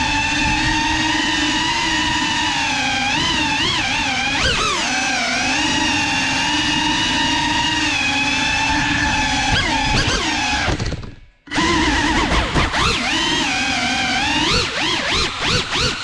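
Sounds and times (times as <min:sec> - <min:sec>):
drone motors and propellers whining: 0:00.0 - 0:16.0.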